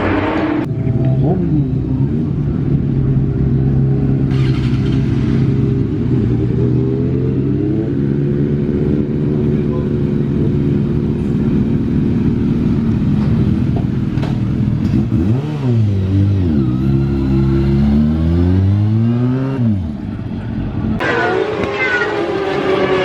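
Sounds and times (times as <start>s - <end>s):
racing motorcycle engine revving: 0.0s - 20.1s, 21.0s - 23.0s.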